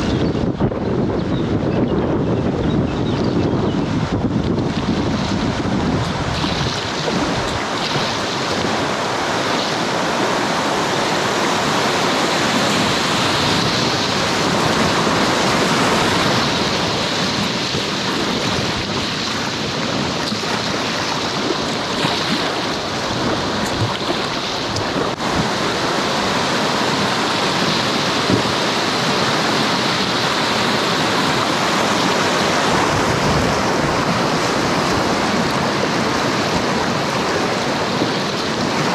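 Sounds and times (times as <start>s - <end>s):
river water rushing and splashing: 3.1s - 38.9s.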